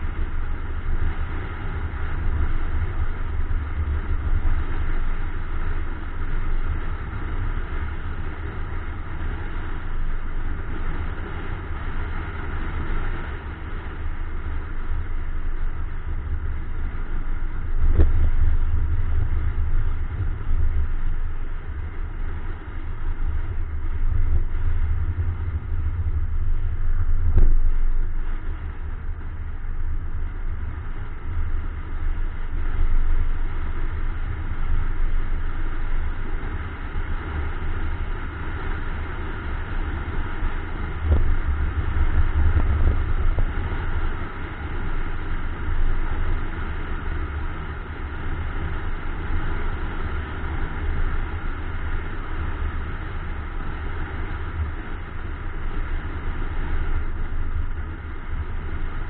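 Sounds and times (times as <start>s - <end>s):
car road and engine noise: 0.0s - 59.0s
wind buffeting microphone: 0.0s - 59.0s.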